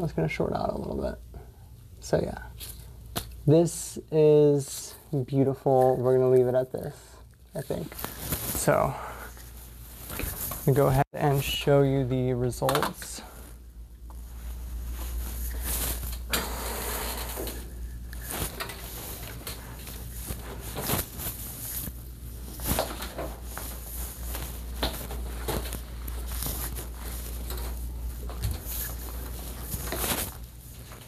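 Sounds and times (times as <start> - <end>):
steady low hum: 0.0 - 31.0
hands rustling and handling things: 4.5 - 31.0.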